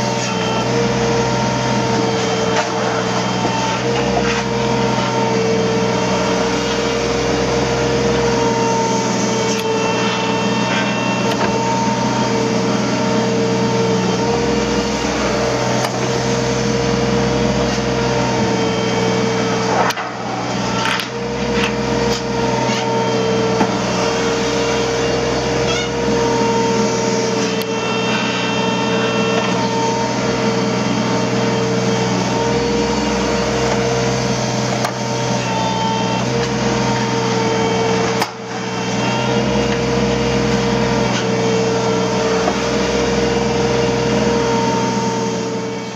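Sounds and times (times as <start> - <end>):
excavator diesel engine running: 0.0 - 45.9
high hydraulic whine: 0.0 - 45.9.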